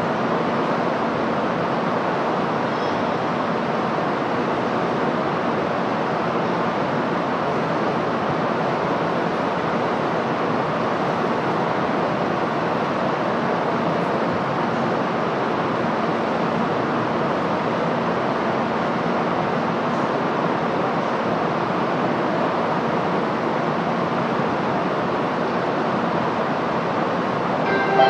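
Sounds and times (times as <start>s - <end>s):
rushing station background noise: 0.0s - 28.0s.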